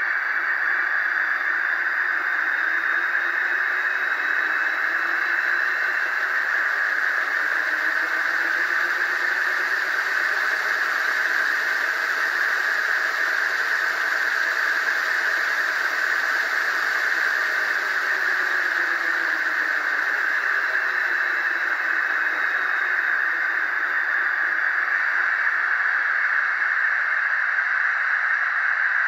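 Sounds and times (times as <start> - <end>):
hiss of blowers: 0.0 - 27.3.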